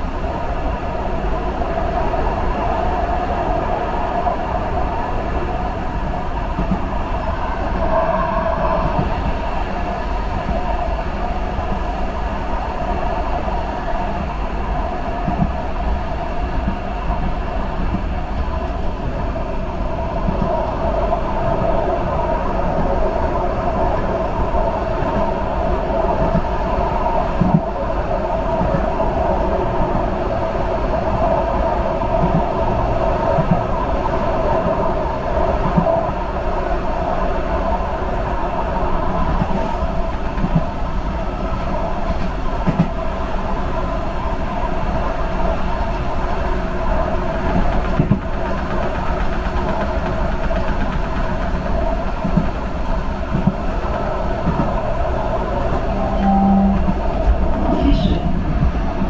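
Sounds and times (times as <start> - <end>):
subway train rumbling on track: 0.0 - 59.0.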